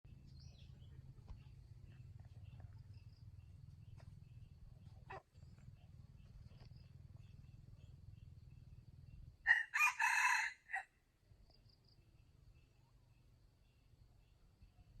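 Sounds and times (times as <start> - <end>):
faint low hum: 0.1 - 10.1, 11.0 - 15.0.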